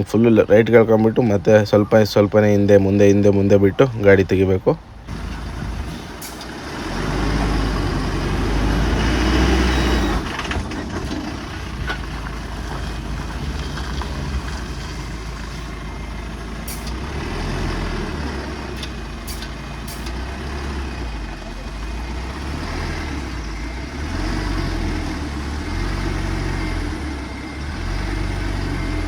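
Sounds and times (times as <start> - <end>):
truck diesel engine rumbling: 0.0 - 29.0.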